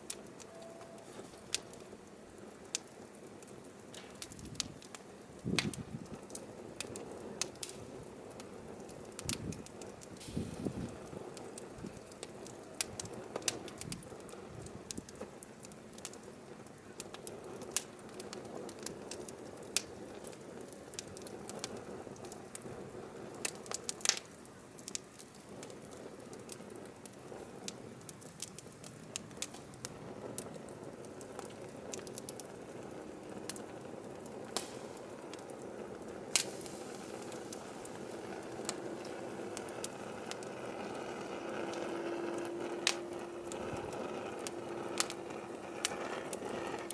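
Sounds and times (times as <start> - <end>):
firewood crackling and popping: 0.0 - 46.9
low hiss of flame: 0.0 - 46.9.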